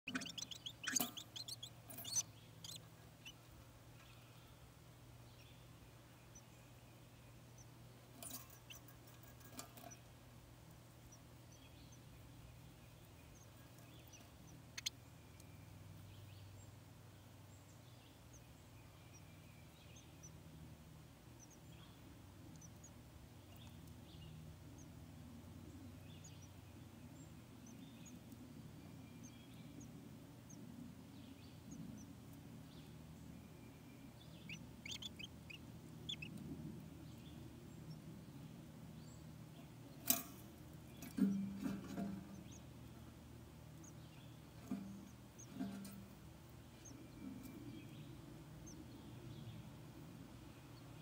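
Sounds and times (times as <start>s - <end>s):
nestlings peeping: 0.0s - 51.0s.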